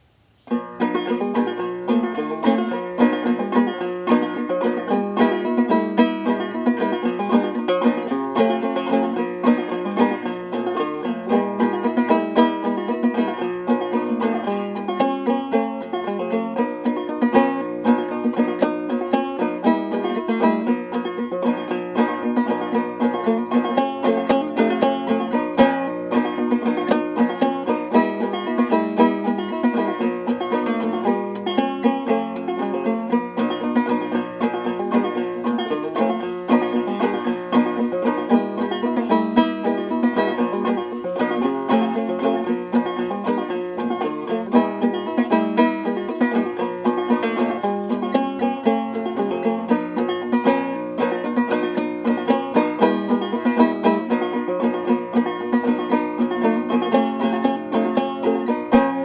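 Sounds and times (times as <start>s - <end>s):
banjo plucked melody: 0.0s - 59.0s.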